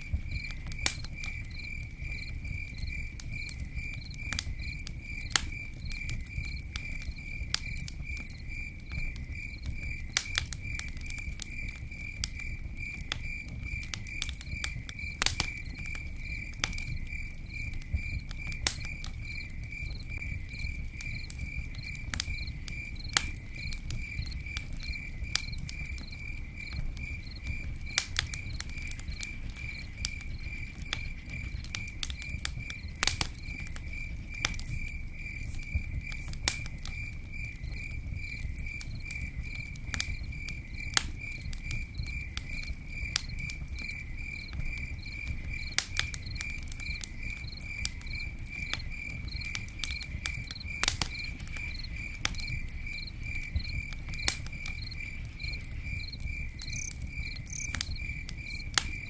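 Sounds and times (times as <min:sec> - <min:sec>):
campfire crackling: 0:00.0 - 0:59.0
cricket chirping: 0:00.0 - 0:59.0.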